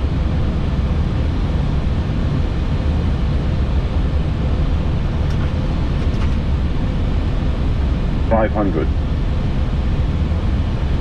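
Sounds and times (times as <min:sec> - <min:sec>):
airflow and engine rumble: 0:00.0 - 0:11.0
faint steady hum: 0:00.0 - 0:11.0.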